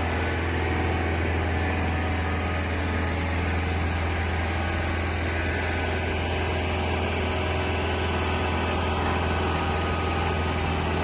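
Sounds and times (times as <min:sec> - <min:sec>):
engine idling with low hum: 0:00.0 - 0:11.0.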